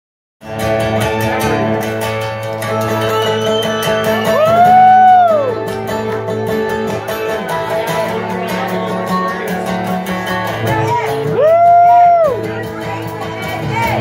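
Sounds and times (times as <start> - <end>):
acoustic band playing: 0.4 - 14.0
acoustic guitars strumming: 0.4 - 14.0.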